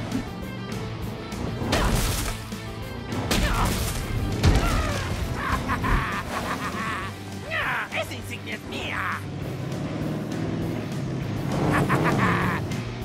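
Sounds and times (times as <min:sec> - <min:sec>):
cartoon background music: 0:00.0 - 0:13.0.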